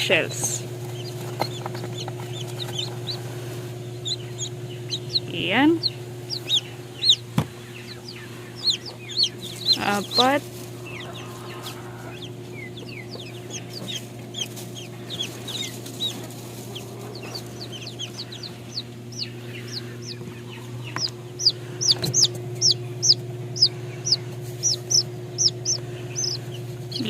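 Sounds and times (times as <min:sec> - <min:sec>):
chicks peeping: 0:00.0 - 0:27.0
steady low hum: 0:00.0 - 0:27.0.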